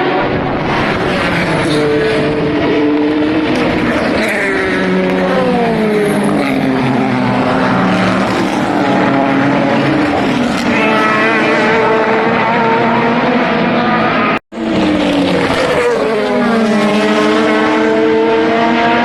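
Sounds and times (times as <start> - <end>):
racing cars passing at speed: 0.0 - 19.0.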